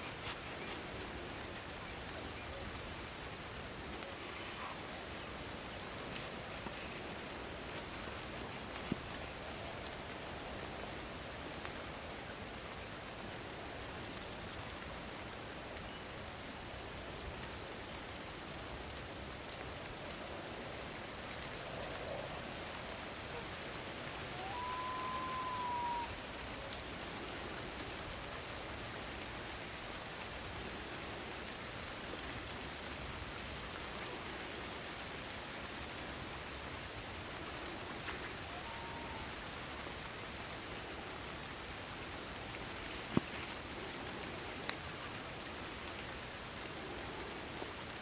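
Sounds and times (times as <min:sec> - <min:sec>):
rain falling in a forest: 0:00.0 - 0:48.0
raindrop ticks: 0:00.0 - 0:48.0.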